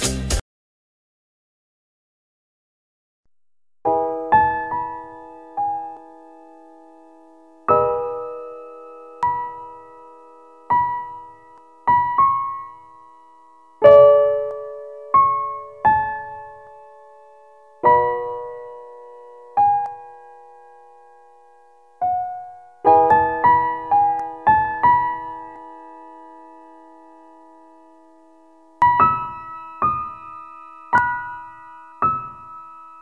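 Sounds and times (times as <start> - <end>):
slow piano music: 3.9 - 33.0.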